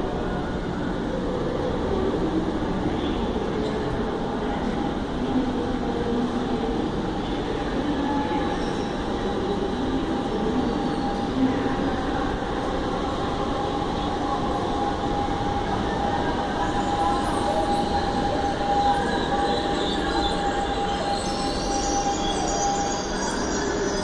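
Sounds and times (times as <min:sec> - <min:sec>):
electric train rumbling: 0:00.0 - 0:24.0
high-pitched train whine: 0:00.0 - 0:24.0.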